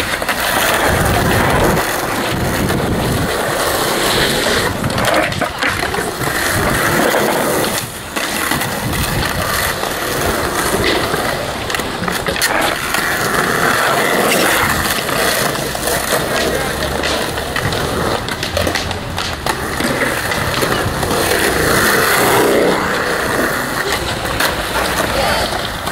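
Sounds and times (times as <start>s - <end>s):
skateboard knocking on ground: 0.0s - 25.9s
skateboard wheels rolling on concrete: 0.0s - 25.9s.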